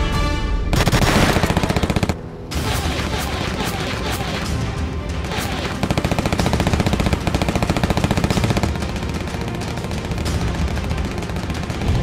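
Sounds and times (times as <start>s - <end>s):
background music: 0.0s - 12.0s
cartoon machine guns firing: 0.8s - 4.5s, 5.2s - 12.0s.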